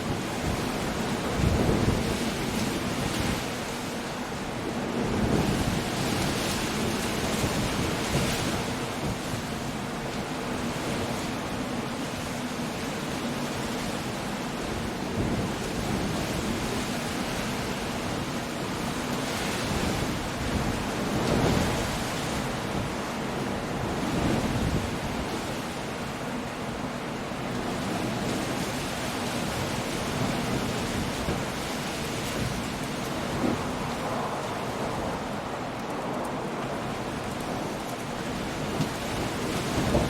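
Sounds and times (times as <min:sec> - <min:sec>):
steady rain: 0:00.0 - 0:40.0
waves breaking on rocks: 0:00.0 - 0:40.0
wind: 0:00.0 - 0:40.0.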